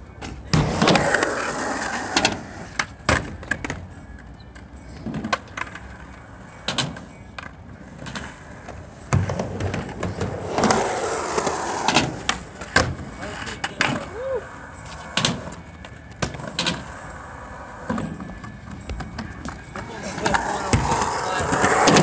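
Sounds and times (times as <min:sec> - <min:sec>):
skateboard wheels rolling on concrete: 0:00.0 - 0:22.0
skateboards clacking: 0:00.0 - 0:22.0.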